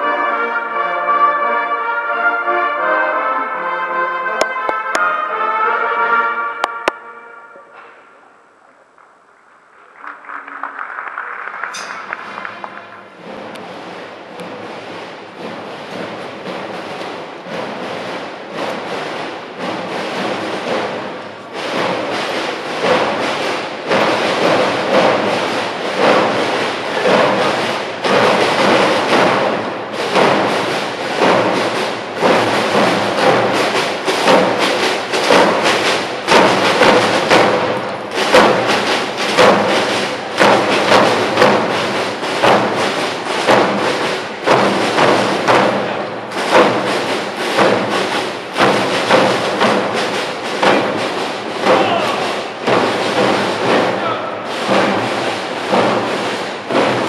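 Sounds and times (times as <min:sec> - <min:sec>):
drum corps marching cadence: 0:00.0 - 0:09.0, 0:11.7 - 0:57.0.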